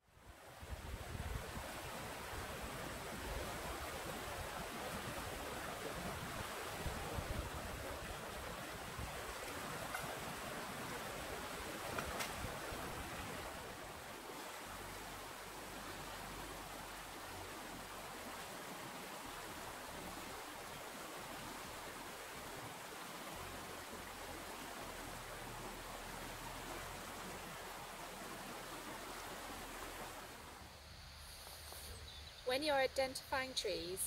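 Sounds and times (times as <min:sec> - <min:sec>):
fast-flowing river: 0:00.2 - 0:30.6.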